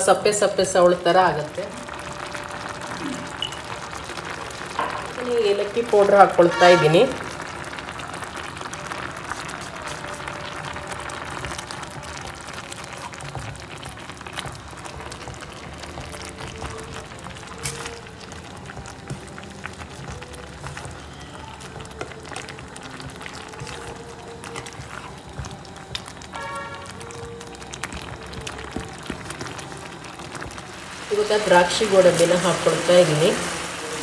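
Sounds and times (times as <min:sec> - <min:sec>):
soft music: 0:00.0 - 0:34.0
thick mixture bubbling in a pan: 0:00.0 - 0:34.0.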